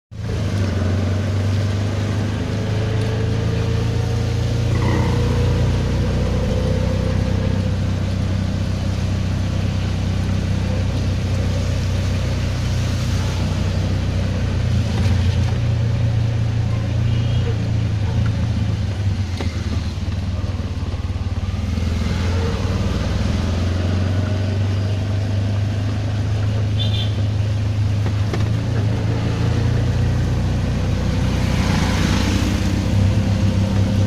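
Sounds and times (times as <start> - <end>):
auto-rickshaw engine running: 0.1 - 34.0
tyres on wet road: 0.1 - 34.0.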